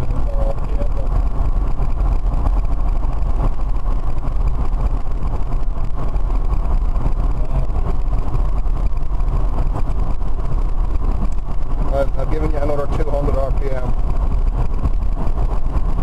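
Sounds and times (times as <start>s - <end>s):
road and wind noise in car: 0.0s - 16.0s.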